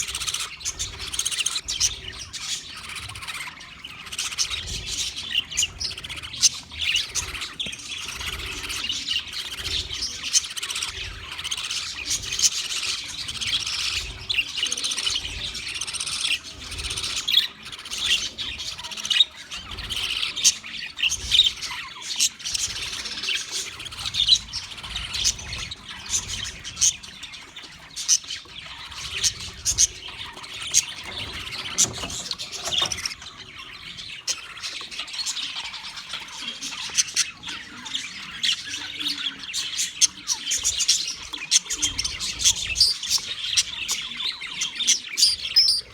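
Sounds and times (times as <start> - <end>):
budgerigars chattering and chirping: 0.0 - 45.9.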